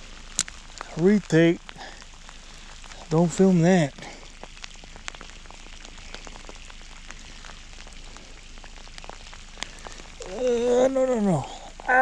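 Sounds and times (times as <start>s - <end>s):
rain hiss: 0.0s - 12.0s
raindrops ticking: 0.0s - 12.0s.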